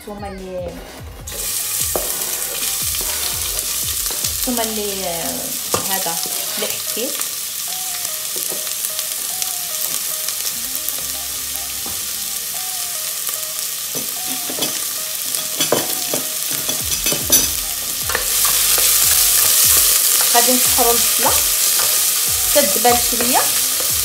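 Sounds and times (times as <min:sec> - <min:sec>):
onion and garlic sizzling in oil: 0:01.3 - 0:24.0.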